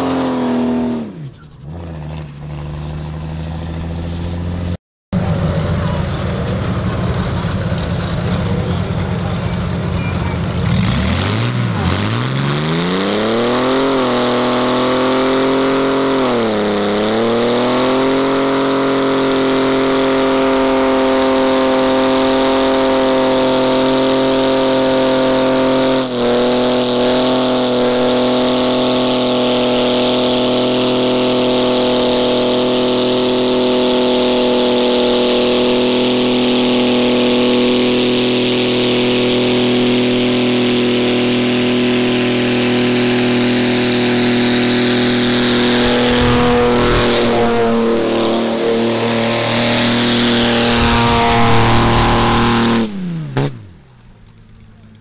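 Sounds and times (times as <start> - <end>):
car engine revving: 0.0 - 54.6.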